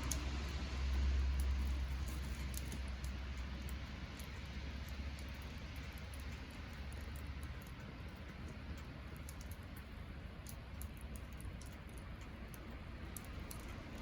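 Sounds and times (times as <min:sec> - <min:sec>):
campfire crackling: 0:00.0 - 0:14.0
fire low rumble and hiss: 0:00.0 - 0:14.0.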